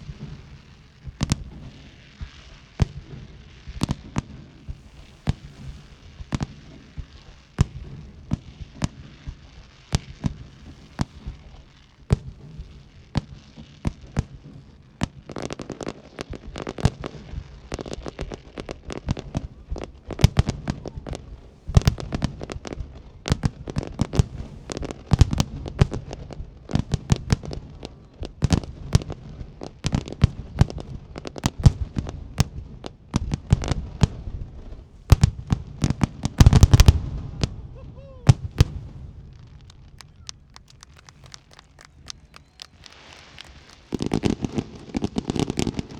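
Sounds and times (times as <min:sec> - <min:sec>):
fireworks bursts and bangs: 0:00.0 - 0:45.9.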